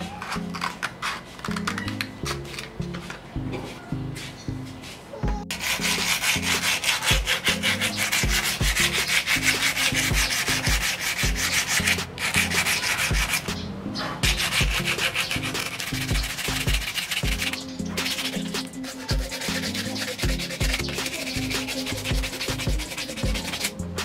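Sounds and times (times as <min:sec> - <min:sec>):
sandpaper scraping metal: 0:00.0 - 0:03.2, 0:04.2 - 0:24.0.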